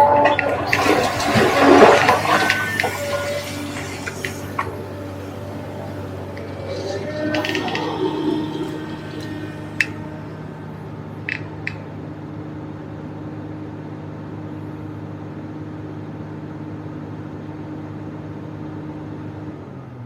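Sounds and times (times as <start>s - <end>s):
excavator diesel engine running: 0.0s - 17.1s.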